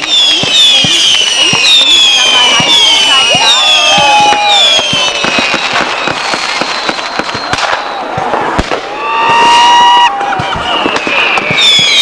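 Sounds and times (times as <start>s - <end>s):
fireworks bangs and crackles: 0.0s - 12.0s
whistling rocket: 0.0s - 12.0s.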